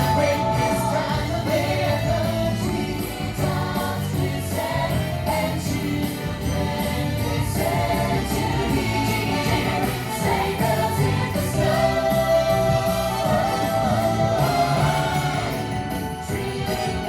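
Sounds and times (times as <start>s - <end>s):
choir singing over band: 0.0s - 17.0s
sleigh bells ringing: 0.0s - 17.0s.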